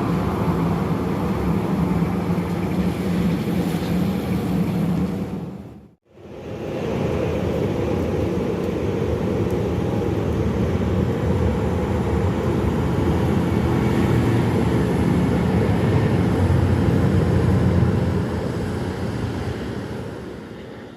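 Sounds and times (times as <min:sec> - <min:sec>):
jet airliner engines running: 0:00.0 - 0:20.9.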